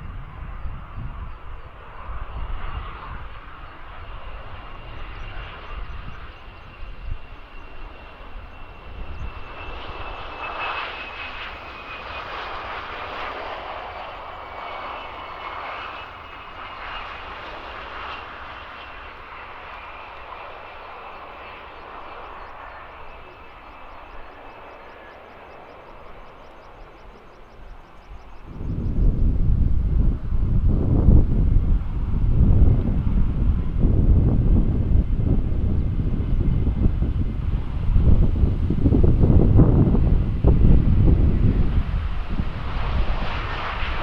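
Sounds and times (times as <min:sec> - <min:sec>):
jet aircraft engines passing: 0:00.0 - 0:44.0.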